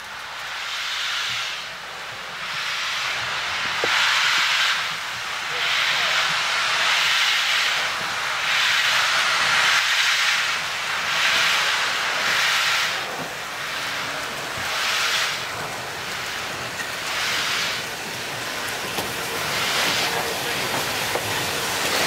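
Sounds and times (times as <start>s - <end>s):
steam hissing from drain cocks: 0.0s - 22.0s
steam locomotive moving off: 0.0s - 22.0s.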